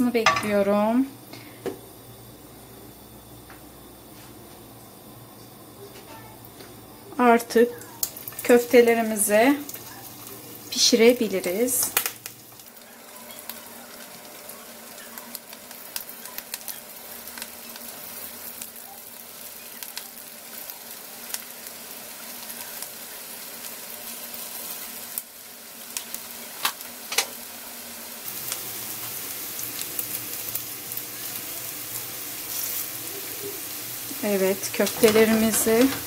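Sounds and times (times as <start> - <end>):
patties sizzling in oil: 0.0 - 36.0.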